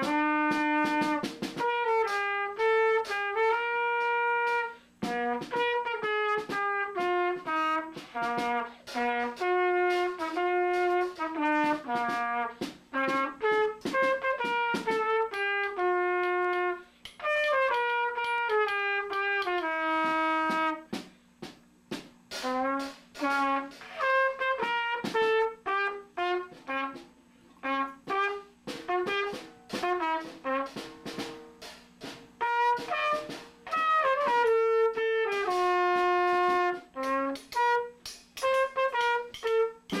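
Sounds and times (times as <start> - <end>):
brass instrument playing tune: 0.0 - 21.2, 22.3 - 40.0.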